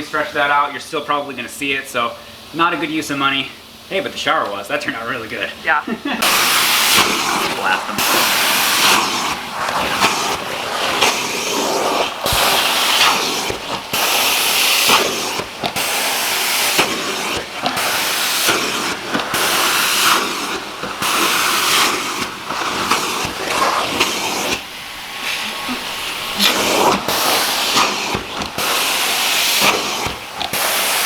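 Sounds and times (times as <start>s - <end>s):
carpet cleaning wand suction hiss: 5.0s - 31.0s.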